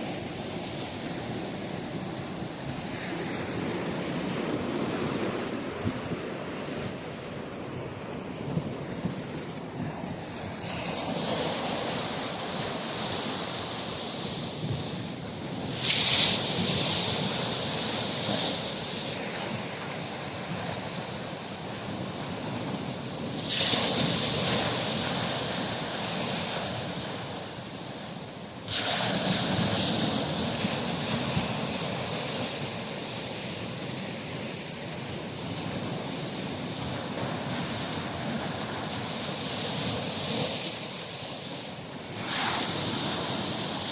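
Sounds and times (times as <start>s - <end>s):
waves washing onto shore: 0.0s - 43.9s.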